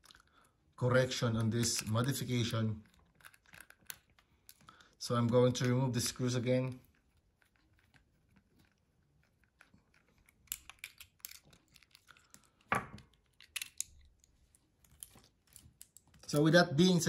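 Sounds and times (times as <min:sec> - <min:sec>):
small parts handled: 0:01.3 - 0:16.6.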